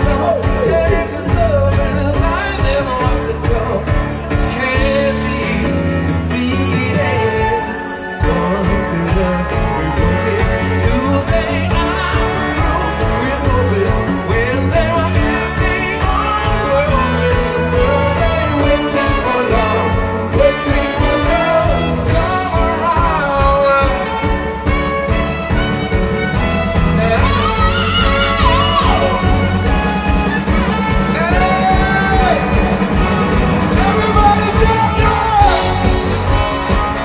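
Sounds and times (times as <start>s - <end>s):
person singing: 0.0s - 24.8s, 26.7s - 37.0s
live pop-rock band playing: 0.0s - 37.0s.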